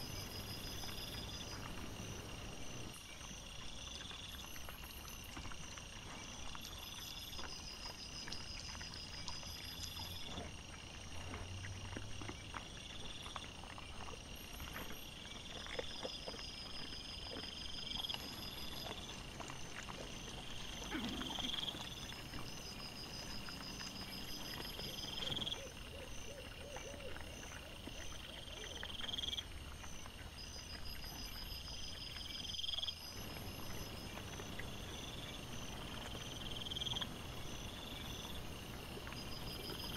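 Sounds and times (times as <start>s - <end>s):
night insects chirping: 0.0s - 39.9s.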